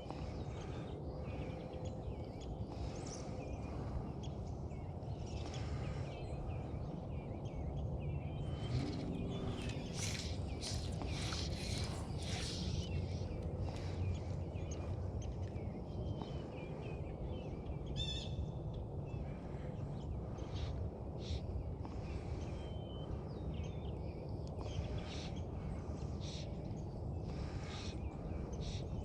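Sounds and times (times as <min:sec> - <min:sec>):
low outdoor rush: 0:00.0 - 0:29.0
small birds chirping: 0:00.0 - 0:29.0.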